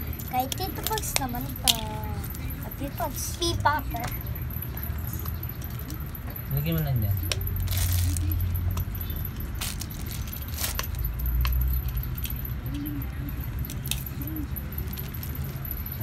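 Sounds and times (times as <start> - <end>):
metal key ring jingling: 0.0 - 16.0.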